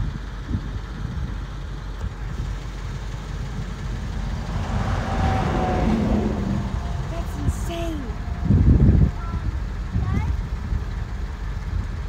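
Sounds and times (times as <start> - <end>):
wind buffeting microphone: 2.0 - 12.0.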